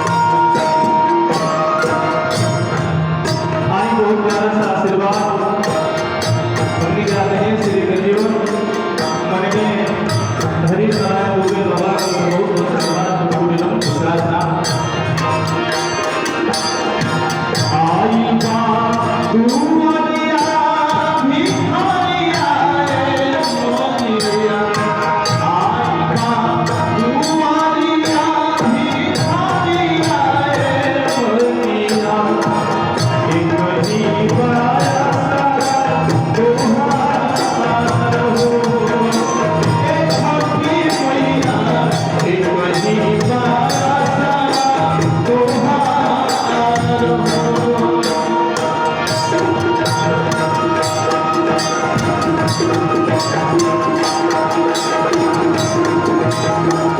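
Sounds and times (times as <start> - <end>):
devotional band melody: 0.0 - 56.9
steady percussion beat: 0.0 - 56.9.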